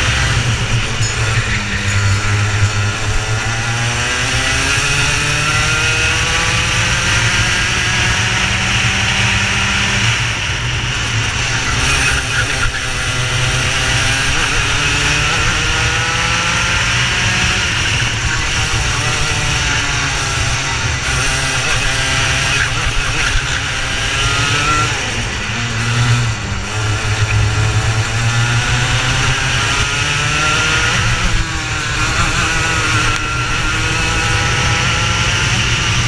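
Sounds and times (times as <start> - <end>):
kart engine accelerating: 0.0 - 36.0.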